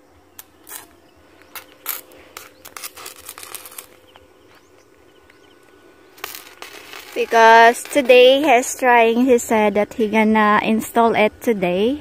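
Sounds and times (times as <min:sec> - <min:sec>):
welding arc crackling: 0:00.0 - 0:09.6.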